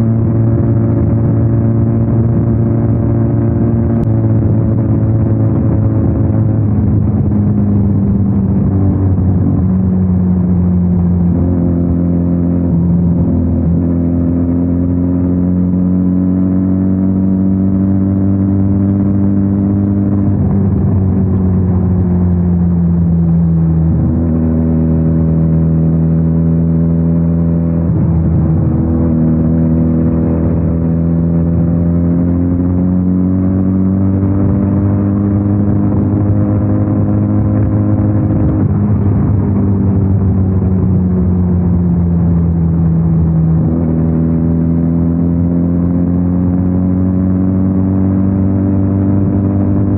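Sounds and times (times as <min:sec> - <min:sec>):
motorcycle engine under way: 0:00.0 - 0:49.9.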